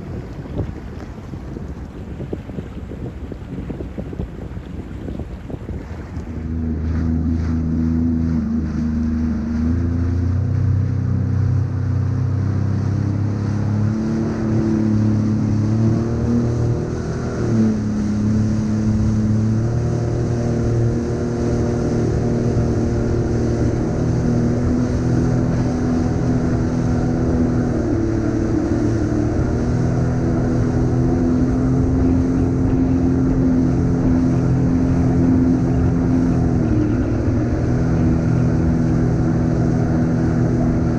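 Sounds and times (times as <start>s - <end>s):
water wash: 0.0s - 40.9s
watercraft engine running: 0.0s - 40.9s
wind noise: 0.0s - 40.9s.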